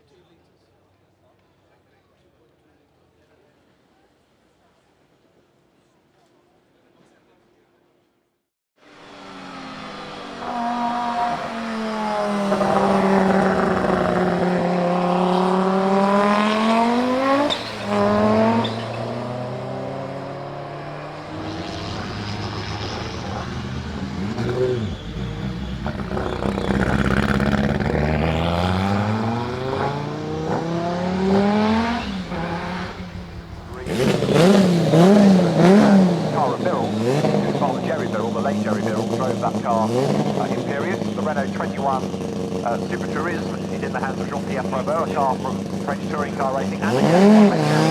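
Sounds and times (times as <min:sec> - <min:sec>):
race car engine revving: 0:08.8 - 0:47.9.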